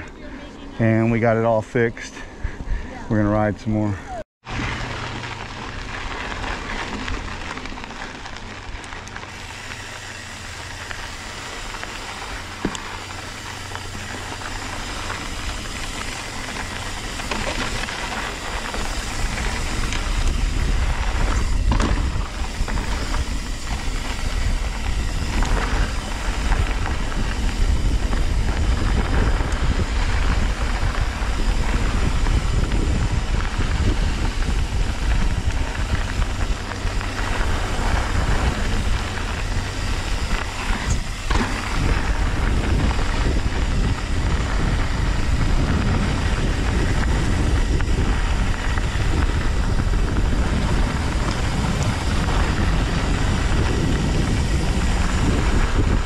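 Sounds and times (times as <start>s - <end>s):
bike tyres rolling over dirt and rock: 0.0s - 56.0s
wind rumbling on microphone: 0.0s - 56.0s.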